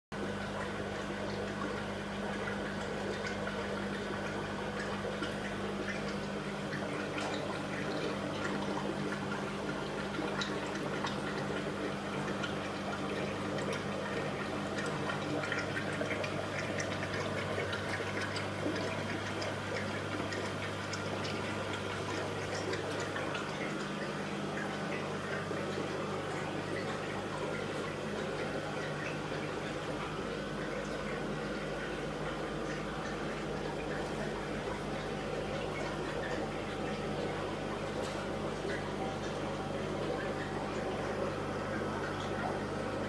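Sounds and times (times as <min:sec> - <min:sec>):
aquarium filter bubbling water: 0:00.1 - 0:43.0
steady low hum: 0:00.2 - 0:43.0.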